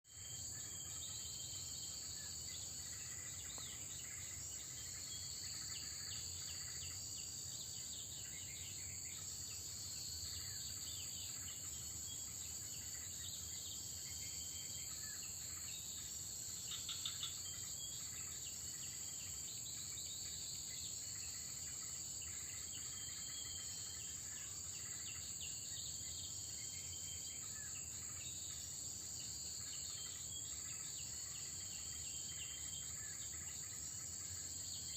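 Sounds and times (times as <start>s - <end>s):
crickets droning: 0.1s - 34.9s.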